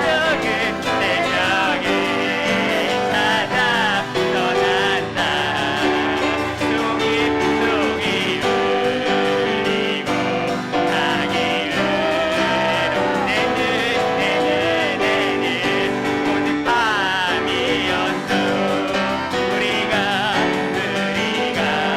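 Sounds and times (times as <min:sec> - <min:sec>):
people singing worship song: 0:00.0 - 0:21.9
piano accompaniment: 0:00.0 - 0:21.9.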